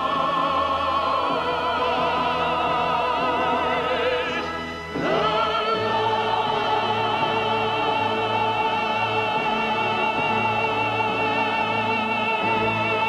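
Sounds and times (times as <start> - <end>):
operatic singing with vibrato: 0.0 - 13.0
orchestra and choir: 0.0 - 13.0.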